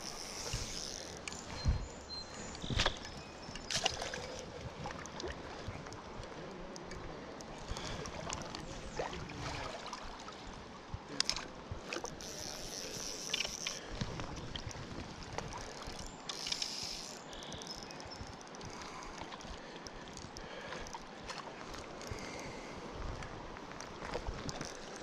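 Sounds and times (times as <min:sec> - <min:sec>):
river water running: 0:00.0 - 0:25.0.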